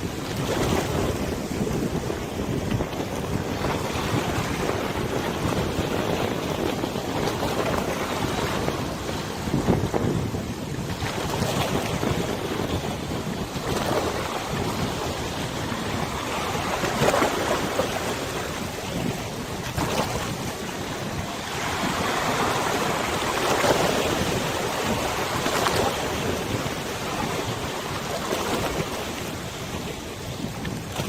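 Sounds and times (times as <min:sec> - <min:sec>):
river water lapping: 0:00.0 - 0:31.0
wind on microphone: 0:00.0 - 0:31.0.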